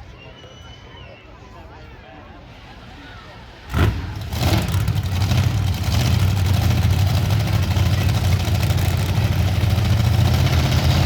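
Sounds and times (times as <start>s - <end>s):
truck engines rumbling: 0.0s - 11.0s.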